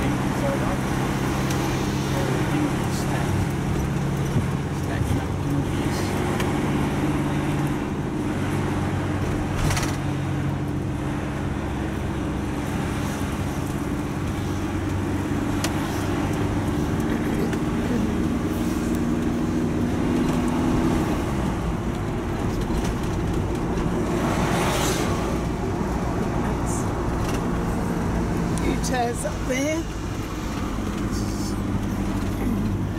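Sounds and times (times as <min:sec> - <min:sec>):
road noise inside vehicle: 0:00.0 - 0:32.9
van engine hum: 0:00.0 - 0:32.9.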